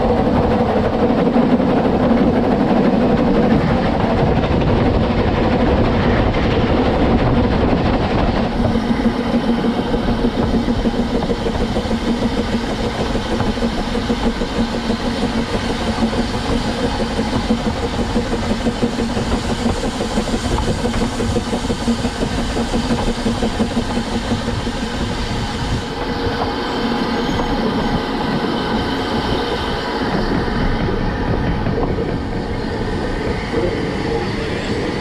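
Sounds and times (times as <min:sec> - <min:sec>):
steam locomotive wheels rattling: 0:00.0 - 0:35.0.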